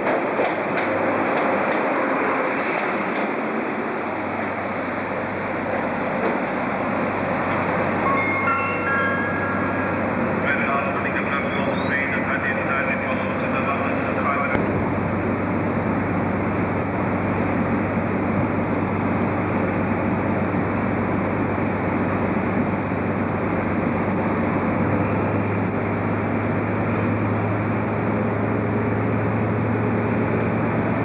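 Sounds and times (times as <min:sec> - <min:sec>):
diesel train engine rumble: 0:00.0 - 0:31.0.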